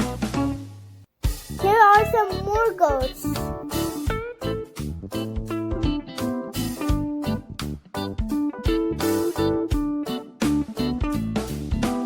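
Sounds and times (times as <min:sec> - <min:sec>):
upbeat guitar music with beat: 0:01.3 - 0:12.0.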